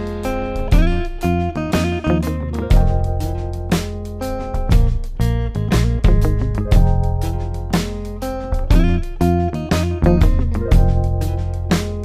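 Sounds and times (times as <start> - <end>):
bass: 0.0 - 12.0
plucked guitar: 0.0 - 12.0
steady beat: 0.0 - 12.0.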